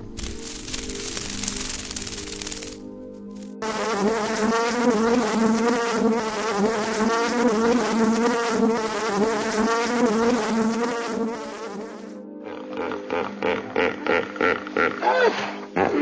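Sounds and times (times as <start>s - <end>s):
insect buzzing in flight: 0.0s - 13.5s.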